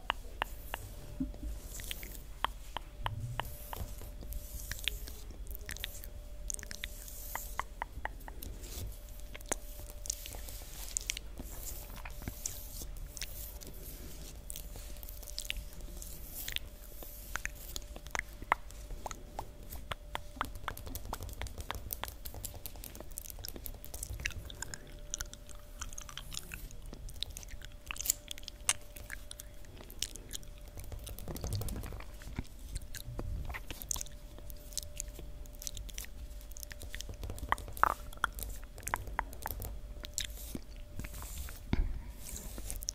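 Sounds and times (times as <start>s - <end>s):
wet mouth clicks: 0.0s - 13.8s, 14.5s - 41.9s
faint steady hum: 0.0s - 42.9s.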